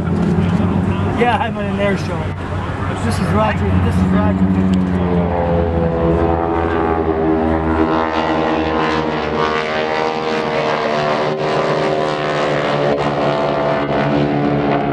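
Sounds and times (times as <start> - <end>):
propeller planes droning: 0.0 - 14.9.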